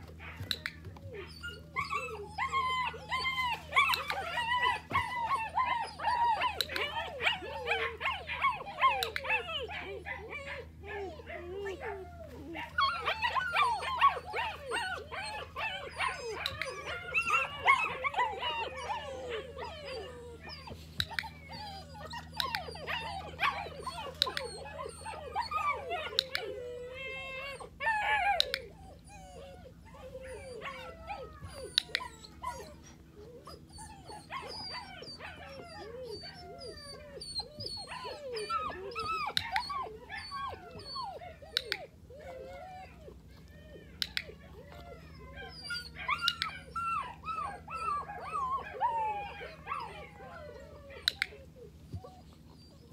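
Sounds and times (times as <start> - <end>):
puppies whining and yelping: 0.0 - 52.9.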